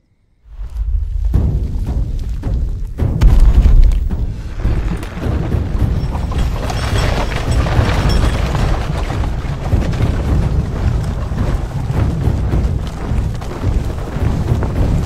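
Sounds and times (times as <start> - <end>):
deep steady rumble: 0.5 - 15.0.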